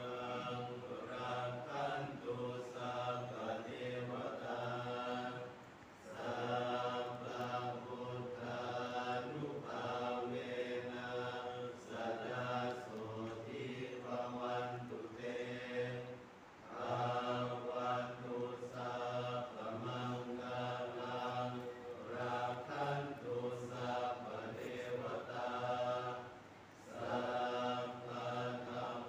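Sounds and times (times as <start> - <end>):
group chanting in unison: 0.0 - 29.0.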